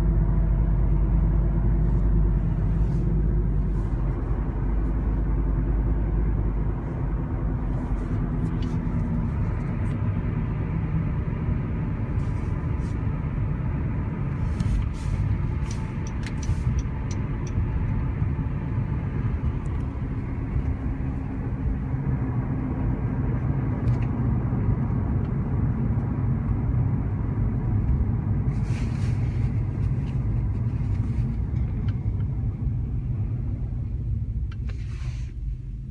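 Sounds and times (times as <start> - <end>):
car road and drivetrain rumble: 0.0 - 35.9.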